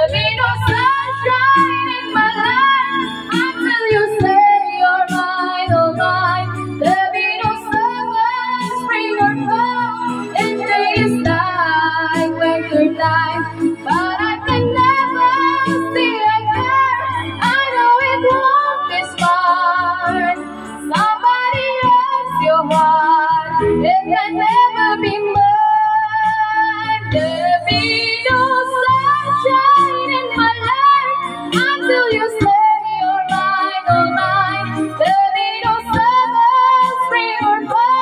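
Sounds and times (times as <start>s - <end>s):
girl singing into a microphone: 0.0s - 38.0s
instrumental backing music: 0.0s - 38.0s.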